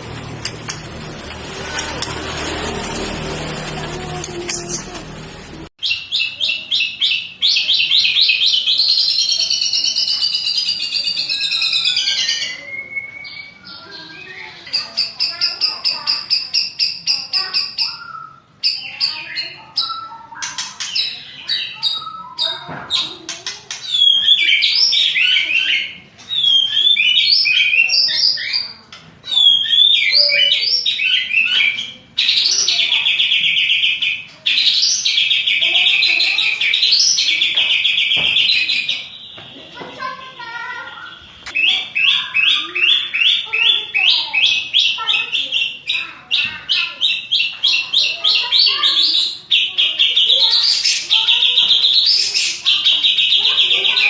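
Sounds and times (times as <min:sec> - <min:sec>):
bird singing with rolling trill: 0:05.8 - 0:54.0.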